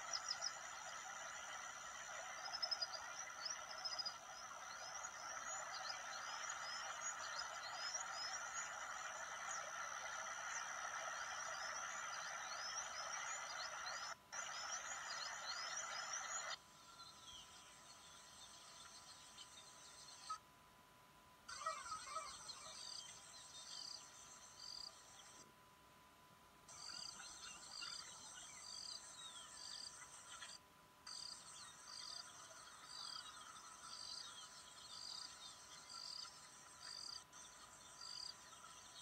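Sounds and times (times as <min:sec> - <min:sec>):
background bird chorus: 0:00.0 - 0:20.4, 0:21.5 - 0:25.5, 0:26.7 - 0:39.0.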